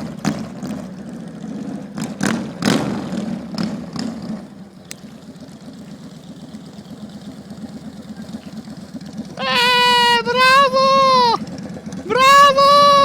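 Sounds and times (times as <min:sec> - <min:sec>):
motorcycle engine idling: 0:00.0 - 0:13.0
motorcycle throttle blips: 0:00.0 - 0:13.0.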